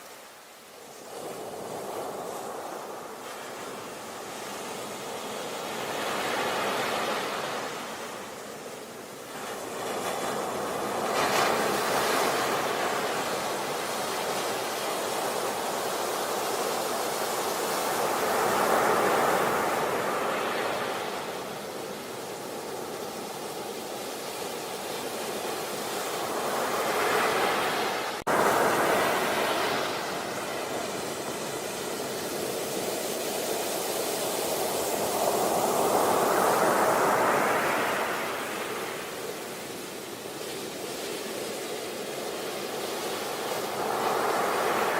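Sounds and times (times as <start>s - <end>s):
sea waves washing onto beach: 0.0s - 44.9s.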